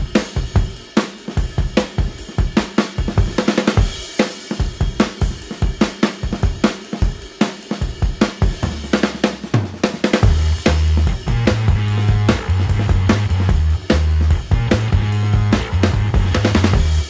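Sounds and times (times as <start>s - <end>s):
music with drum-kit beat: 0.0s - 17.0s.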